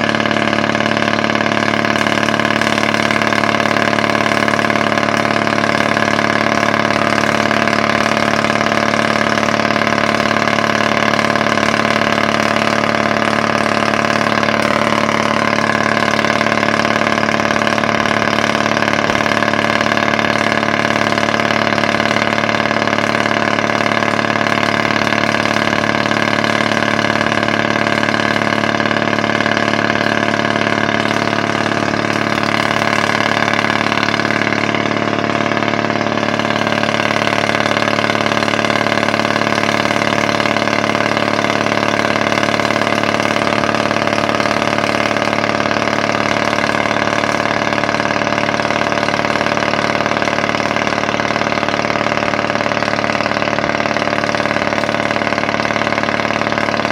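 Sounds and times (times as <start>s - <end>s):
tractor engine idling: 0.0s - 56.9s.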